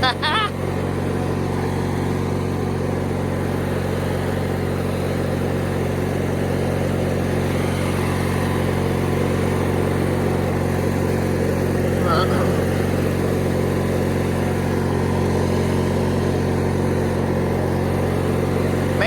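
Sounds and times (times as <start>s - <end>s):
riding lawn mower engine droning: 0.0s - 19.0s.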